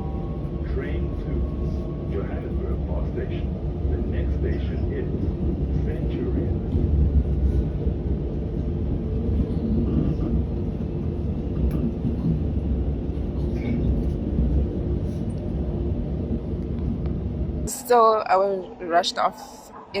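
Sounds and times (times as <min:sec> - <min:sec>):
vehicle rumble from inside: 0:00.0 - 0:17.7.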